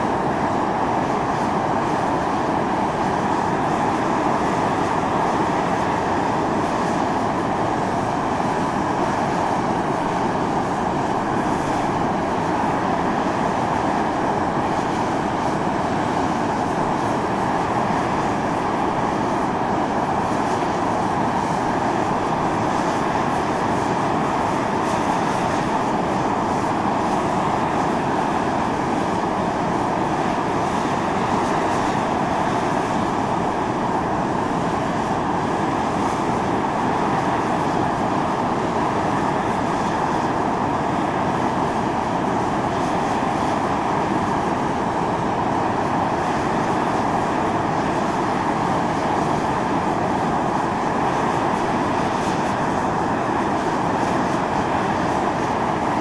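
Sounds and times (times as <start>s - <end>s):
fumarole venting steam hiss: 0.0s - 56.0s.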